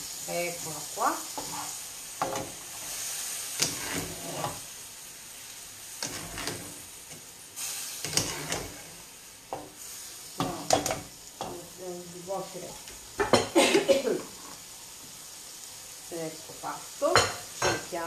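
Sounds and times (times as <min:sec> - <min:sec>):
pasta sizzling in a pan: 0:00.0 - 0:18.0.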